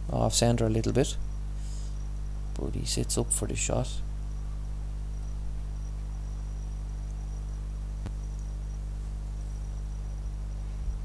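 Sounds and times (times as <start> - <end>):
faint high whine: 0.0 - 11.0
steady low hum: 0.0 - 11.0.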